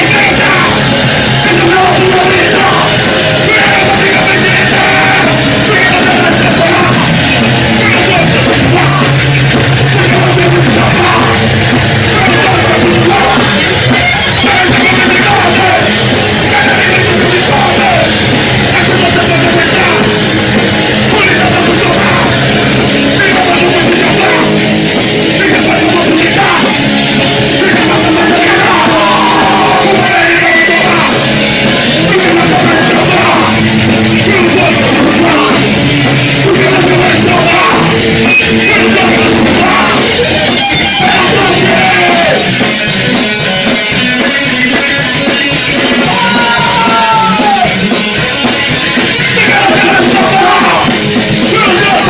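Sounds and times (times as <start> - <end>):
shouted vocals: 0.0 - 42.9, 44.2 - 52.0
distorted guitars: 0.0 - 52.0
drums: 0.0 - 52.0.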